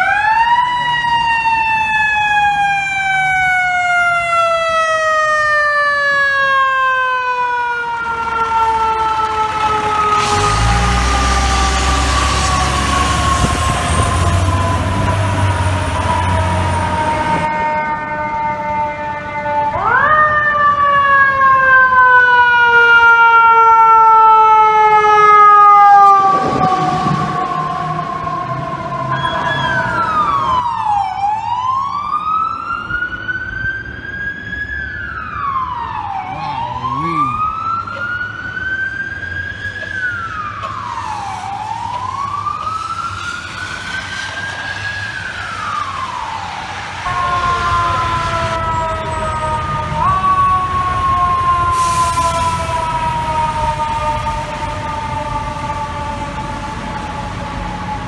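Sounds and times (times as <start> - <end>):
ambulance wail siren: 0.0 - 58.0
fire truck siren: 0.0 - 58.0.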